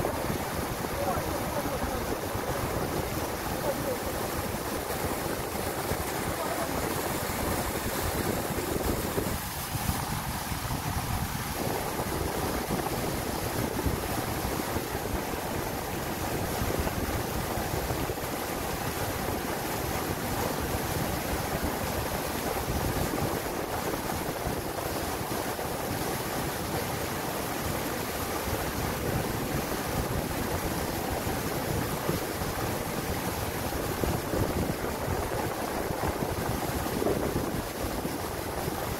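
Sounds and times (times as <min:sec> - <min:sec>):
surf washing over rocks: 0:00.0 - 0:38.9.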